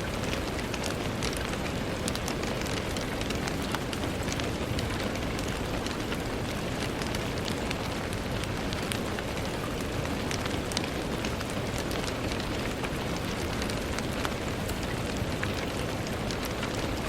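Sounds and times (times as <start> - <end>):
rain pattering on a window: 0.0 - 17.0.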